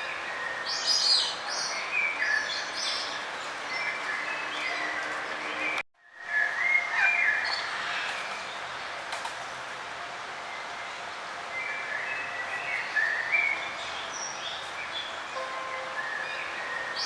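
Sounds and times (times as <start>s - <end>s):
songbirds chirping and singing: 0.0s - 9.0s, 10.4s - 17.0s.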